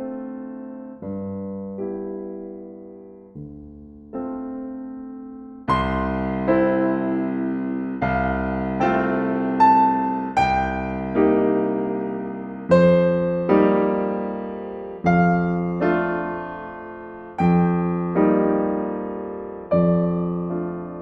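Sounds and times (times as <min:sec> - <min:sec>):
slow solo piano chords: 0:00.0 - 0:21.0.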